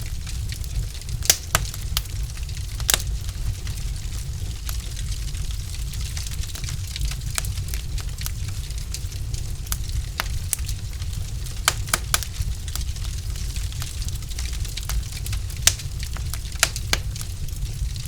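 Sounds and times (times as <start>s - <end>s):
fire crackling and popping: 0.0s - 18.0s
low fire rumble: 0.0s - 18.0s.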